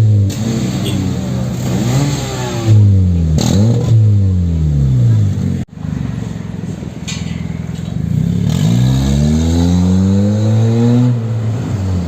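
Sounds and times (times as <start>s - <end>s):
car engine revving: 0.0s - 5.7s, 7.9s - 12.0s.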